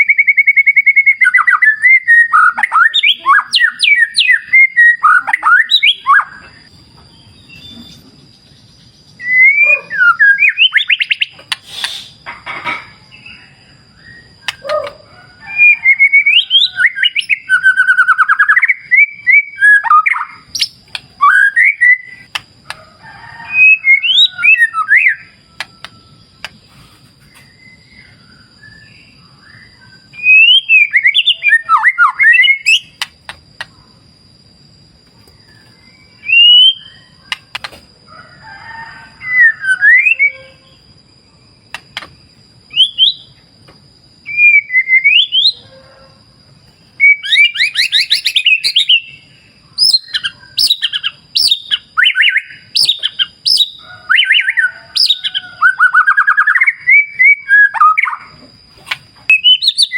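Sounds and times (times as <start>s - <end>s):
bird whistling song: 0.0s - 8.2s, 9.0s - 12.2s, 13.1s - 22.4s, 23.4s - 33.7s, 35.3s - 37.6s, 39.1s - 40.9s, 42.7s - 43.4s, 44.2s - 45.6s, 46.9s - 58.4s, 59.3s - 59.9s.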